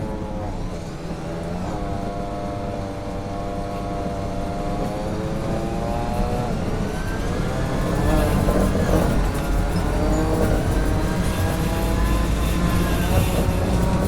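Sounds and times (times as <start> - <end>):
armoured vehicle engine rumbling: 0.0 - 14.0.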